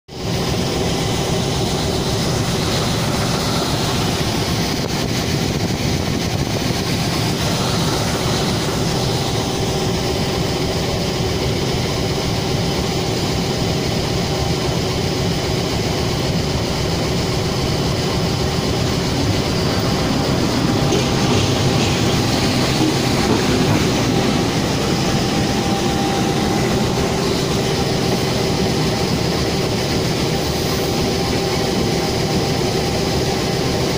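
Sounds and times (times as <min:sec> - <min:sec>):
diesel locomotive engine running: 0:00.1 - 0:33.9.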